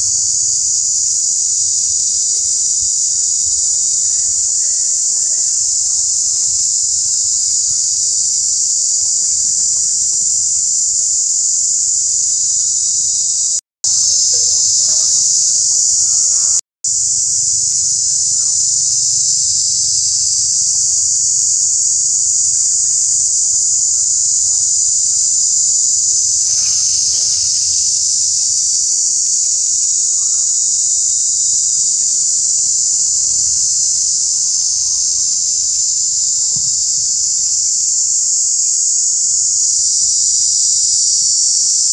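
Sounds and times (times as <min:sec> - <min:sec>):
insect chorus buzzing: 0:00.0 - 0:41.9.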